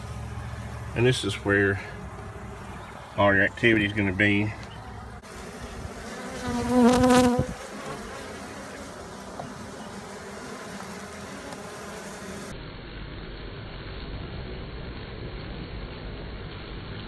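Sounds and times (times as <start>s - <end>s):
honeybees buzzing: 0.0s - 16.2s
bee flying past close: 0.0s - 17.0s.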